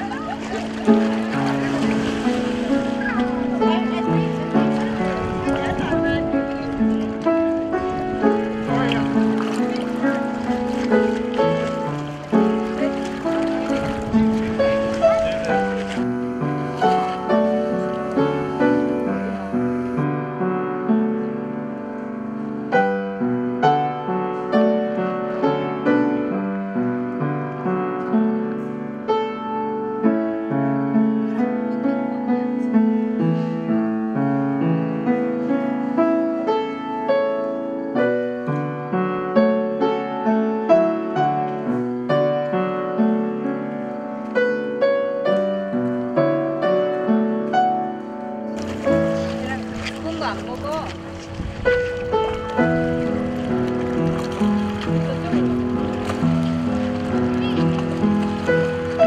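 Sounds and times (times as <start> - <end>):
solo piano music: 0.0 - 59.0.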